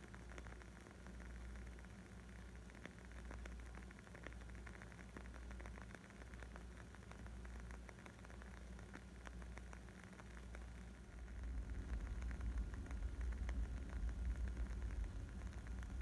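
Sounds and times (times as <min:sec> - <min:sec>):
low steady rumble: 0:00.0 - 0:16.0
wood fire crackling: 0:00.1 - 0:16.0.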